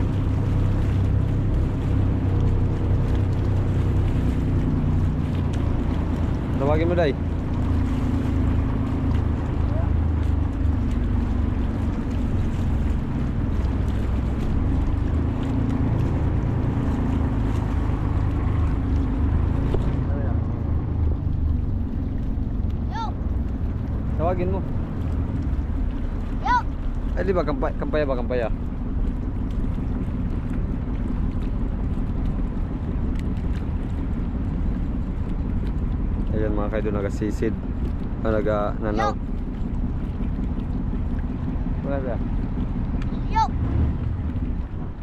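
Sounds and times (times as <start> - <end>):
boat engine running: 0.0 - 45.0
water noise: 0.0 - 45.0.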